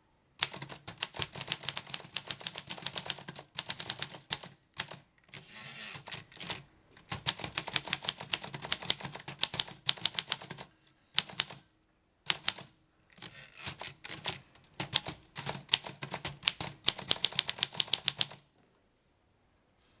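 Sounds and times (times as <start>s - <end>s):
typewriter key strikes: 0.4s - 11.6s, 12.3s - 18.4s.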